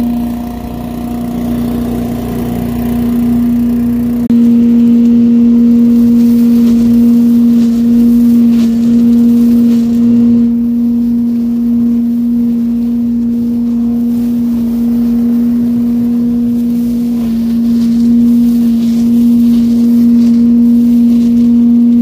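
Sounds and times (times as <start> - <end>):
leaf vacuum humming: 0.0 - 22.0.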